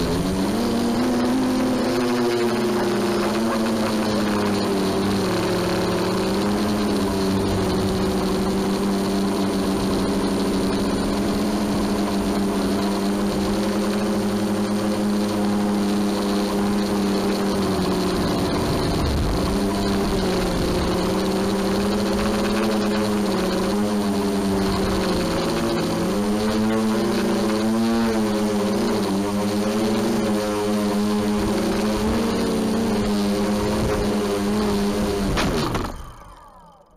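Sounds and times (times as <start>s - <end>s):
drone motors and propellers humming: 0.0s - 36.9s.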